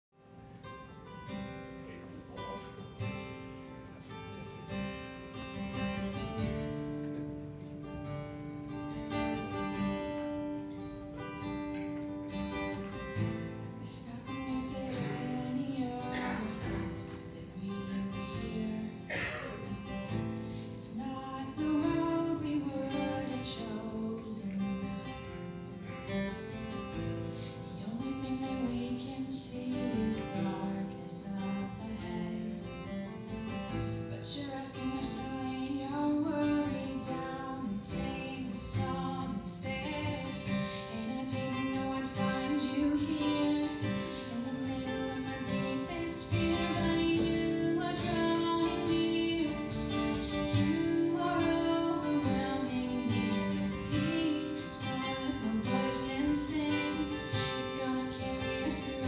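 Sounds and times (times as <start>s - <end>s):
acoustic guitar playing: 0.1s - 59.0s
woman singing: 9.0s - 59.0s.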